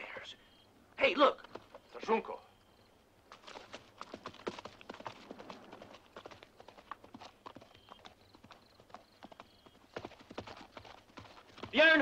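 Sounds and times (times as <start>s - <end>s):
horse hooves galloping: 1.2s - 2.2s, 3.2s - 12.0s.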